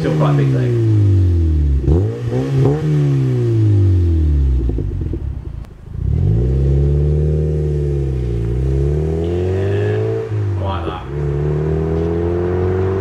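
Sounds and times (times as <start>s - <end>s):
car engine revving: 0.0s - 13.0s
exhaust crackle: 0.0s - 13.0s.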